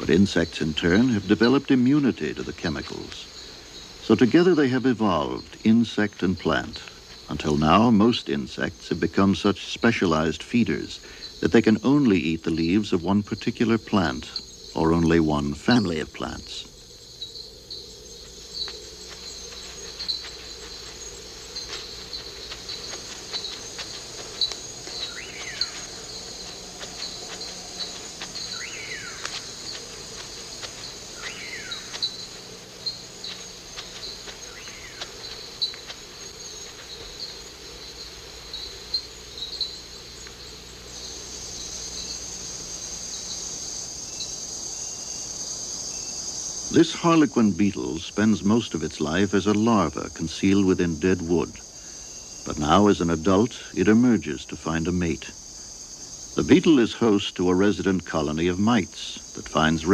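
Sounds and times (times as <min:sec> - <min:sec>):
cricket-like chirps: 0:00.0 - 0:59.9
steady high insect trill: 0:00.0 - 0:59.9.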